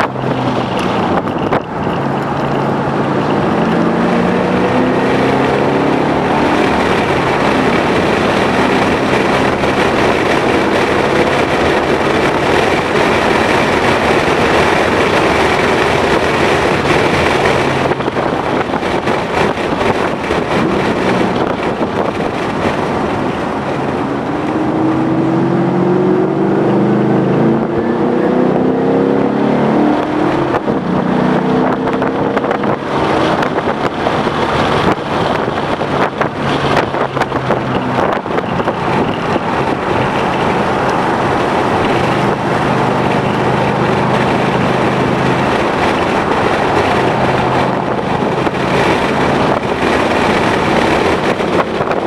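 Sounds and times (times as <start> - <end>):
car engine running hard: 0.0 - 52.0
wind noise on microphone: 0.0 - 52.0.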